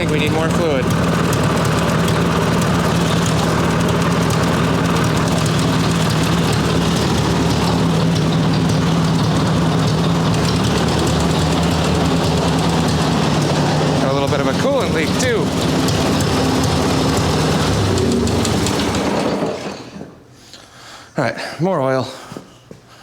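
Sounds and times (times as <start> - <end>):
tractor engine idling: 0.0 - 20.4.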